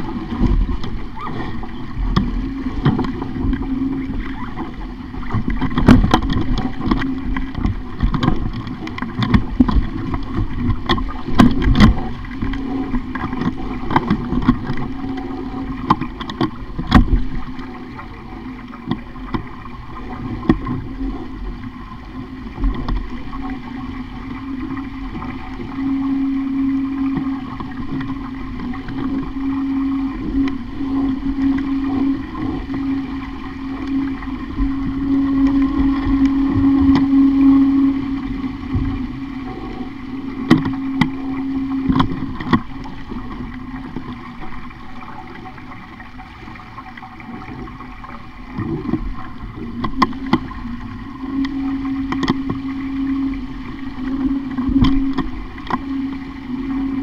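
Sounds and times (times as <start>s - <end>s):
steady low drone: 0.0s - 57.0s
water washing: 0.0s - 57.0s.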